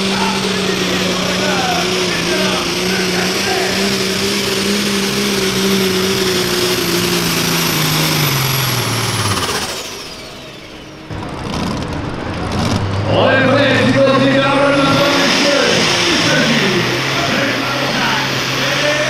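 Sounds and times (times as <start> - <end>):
diesel tractor engine at full throttle: 0.0 - 19.0.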